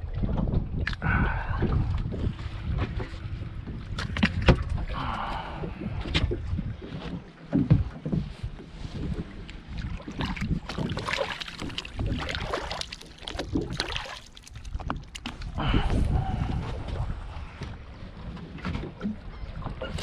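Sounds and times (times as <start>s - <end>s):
wind rumble on microphone: 0.0s - 12.5s, 14.5s - 20.0s
water splashing and sloshing: 0.0s - 20.0s.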